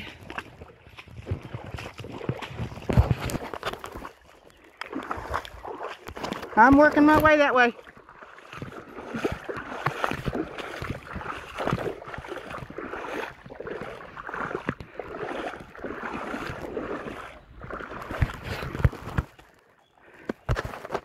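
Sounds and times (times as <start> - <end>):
wading through water sloshing: 0.0 - 21.0.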